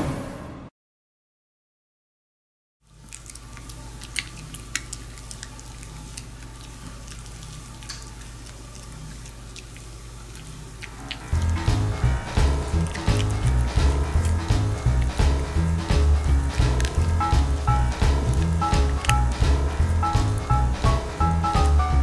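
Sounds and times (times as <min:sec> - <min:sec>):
low electrical hum: 0:02.8 - 0:22.0
dogs crunching dried fish: 0:02.9 - 0:22.0.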